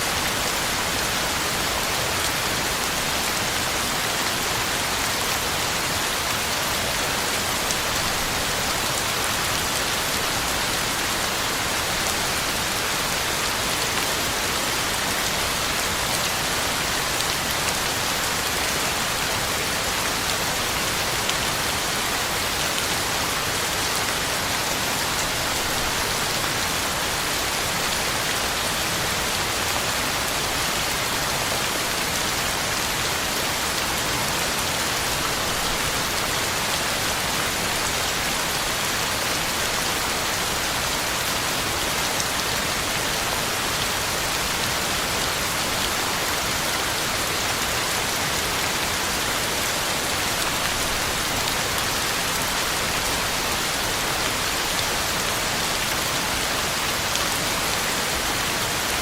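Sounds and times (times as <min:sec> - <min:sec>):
heavy rain on leaves: 0:00.0 - 0:59.0.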